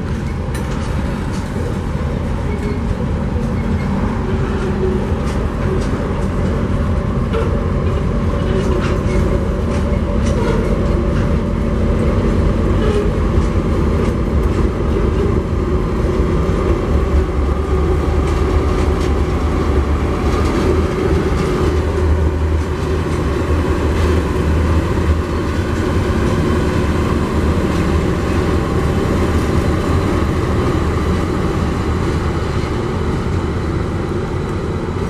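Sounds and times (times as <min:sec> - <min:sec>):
diesel locomotive engine drone: 0:00.0 - 0:35.0
rail clicks from wheels: 0:00.0 - 0:35.0.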